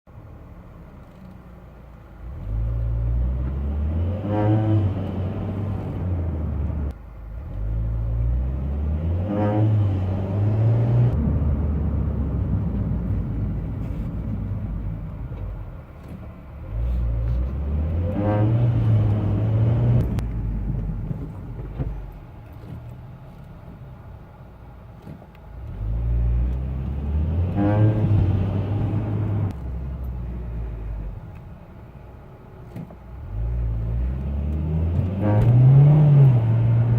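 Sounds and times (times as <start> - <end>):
car accelerating: 2.2 - 23.5, 25.5 - 31.5, 32.6 - 36.9.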